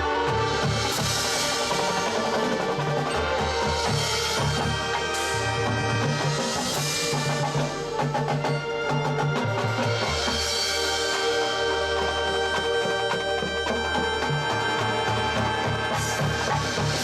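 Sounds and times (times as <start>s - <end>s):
marching band playing: 0.0s - 17.0s
sharp percussion strikes: 0.0s - 17.0s.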